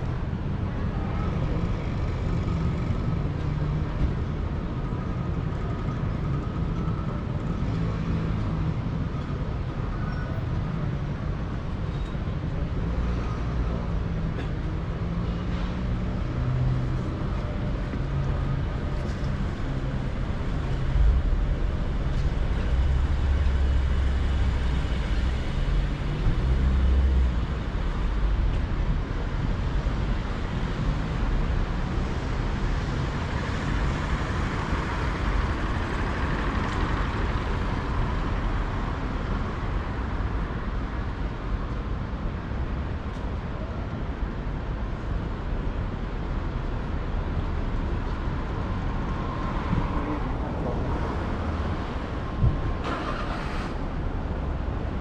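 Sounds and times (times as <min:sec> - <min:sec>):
heavy vehicle rumble: 0:00.0 - 0:55.0
road traffic passing: 0:00.0 - 0:55.0.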